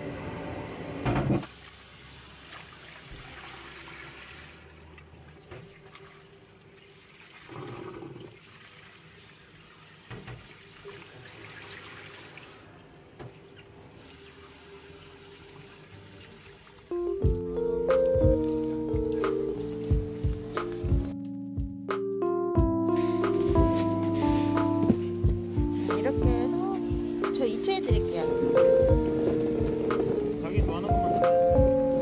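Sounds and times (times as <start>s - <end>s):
water running: 1.4s - 21.2s, 22.9s - 32.0s.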